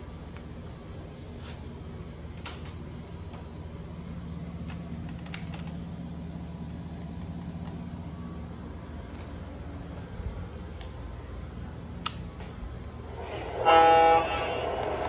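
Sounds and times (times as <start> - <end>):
model trains humming and rumbling: 0.0 - 15.0.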